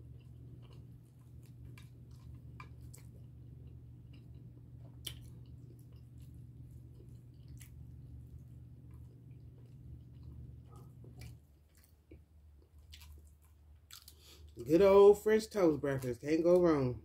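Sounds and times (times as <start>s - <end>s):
person chewing food: 0.0s - 14.8s
steady low hum: 0.0s - 17.0s.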